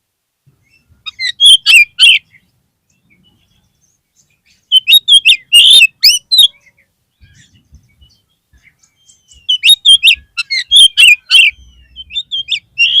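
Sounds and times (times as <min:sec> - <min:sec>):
bird song whistled and harsh notes: 0:00.5 - 0:13.0.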